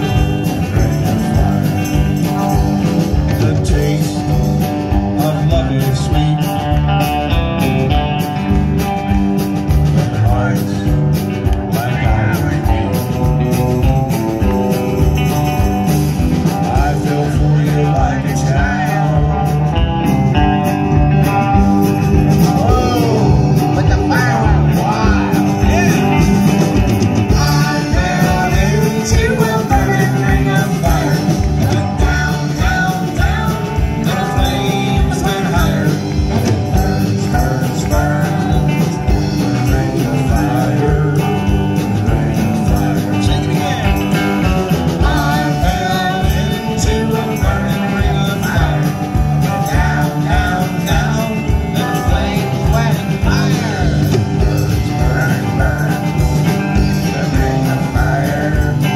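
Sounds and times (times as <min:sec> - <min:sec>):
drums playing steady beat: 0:00.0 - 0:58.9
electric guitars: 0:00.0 - 0:58.9
person singing: 0:00.0 - 0:58.9.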